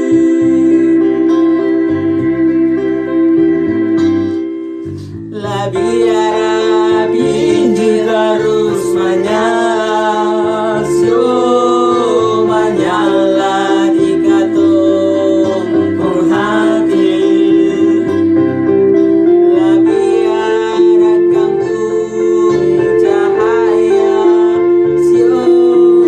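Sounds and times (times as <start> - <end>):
instrumental accompaniment with held chords: 0.0 - 26.0
person singing: 0.0 - 26.0.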